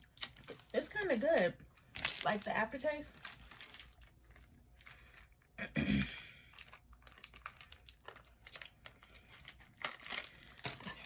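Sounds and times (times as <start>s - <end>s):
snack packaging crinkling: 0.0s - 11.0s.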